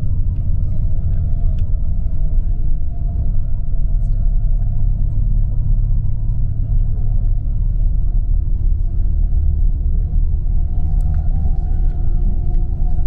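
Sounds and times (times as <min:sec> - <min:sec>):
coach engine drone: 0:00.0 - 0:13.0
road noise: 0:00.0 - 0:13.0.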